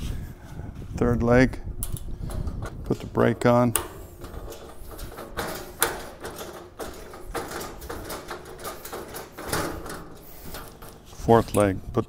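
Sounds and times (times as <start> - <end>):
metal clicks: 1.8 - 12.0
scraping of metal threads: 1.8 - 12.0.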